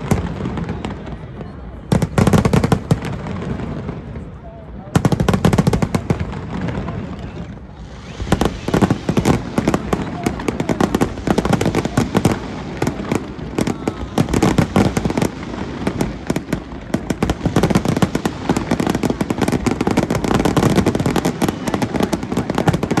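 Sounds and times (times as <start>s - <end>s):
fireworks cracks and bangs: 0.0s - 23.0s
heavy fireworks booms: 0.0s - 23.0s.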